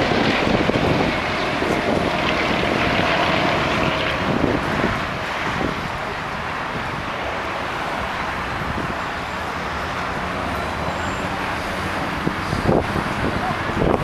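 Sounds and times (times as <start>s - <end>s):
aircraft engines roaring: 0.0s - 14.0s.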